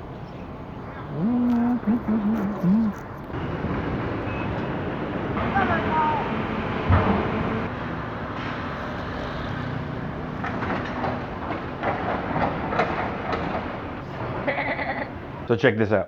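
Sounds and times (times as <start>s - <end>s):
vehicle rumbling: 0.0s - 15.6s.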